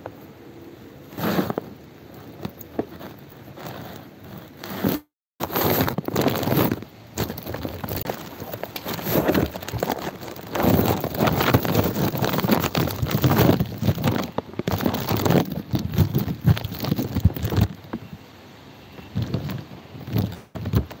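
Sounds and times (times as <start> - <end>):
phone microphone handling noise: 1.1 - 18.2, 19.0 - 21.0.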